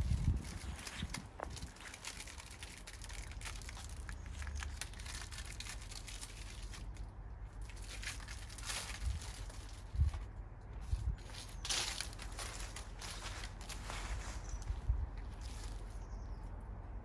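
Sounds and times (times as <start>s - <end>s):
packaging crinkling and rustling: 0.0s - 10.3s, 10.9s - 16.0s
steady low rumble: 0.0s - 17.0s.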